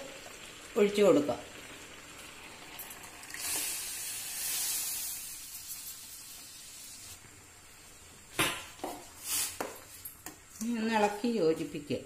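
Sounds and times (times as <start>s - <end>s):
water boiling in a pan: 0.0s - 12.0s.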